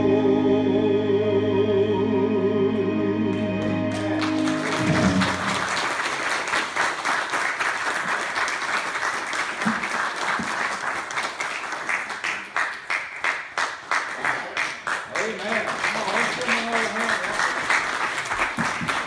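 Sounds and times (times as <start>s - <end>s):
congregation applauding: 3.6s - 19.0s.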